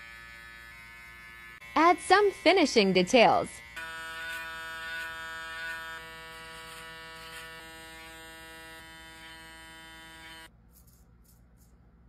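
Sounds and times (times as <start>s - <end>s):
electric hair trimmer buzzing: 0.0s - 10.5s.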